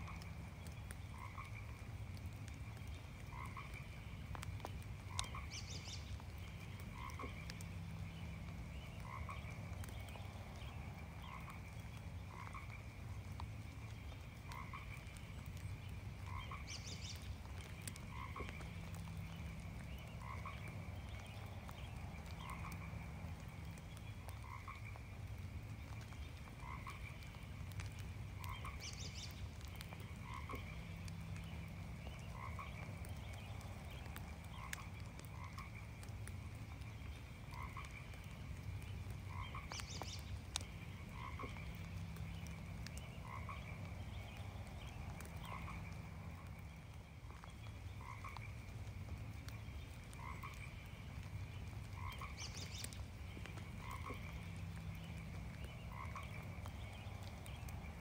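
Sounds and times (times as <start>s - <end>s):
chorus of higher frog calls: 0.0s - 2.3s, 3.2s - 13.5s, 16.2s - 58.0s
frog croaking: 0.0s - 2.3s, 3.2s - 13.5s, 14.4s - 15.6s, 16.2s - 58.0s
light rain drops ticking: 0.0s - 58.0s.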